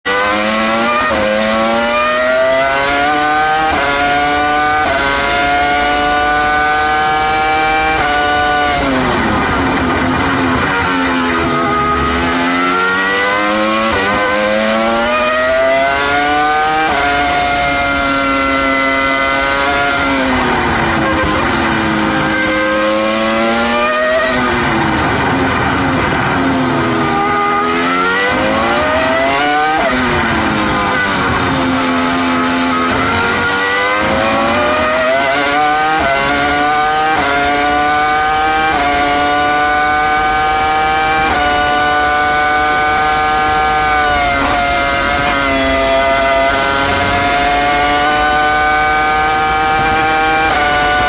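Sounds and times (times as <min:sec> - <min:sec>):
racing car engine revving: 0:00.0 - 0:51.0.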